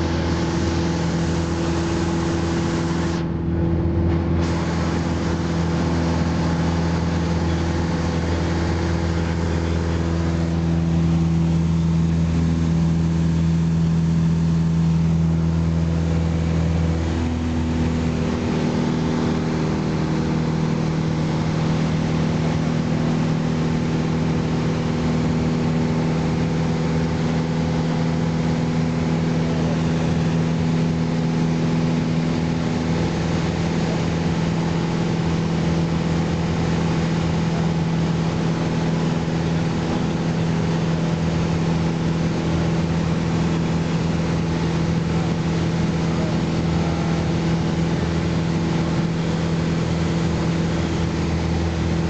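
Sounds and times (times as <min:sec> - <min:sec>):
light aircraft engine droning: 0:00.0 - 0:52.0.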